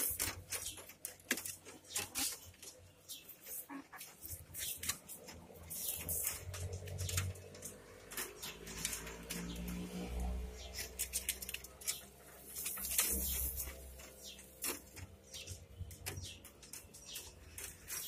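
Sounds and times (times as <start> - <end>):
dry straw crackling and rustling: 0.0 - 18.0.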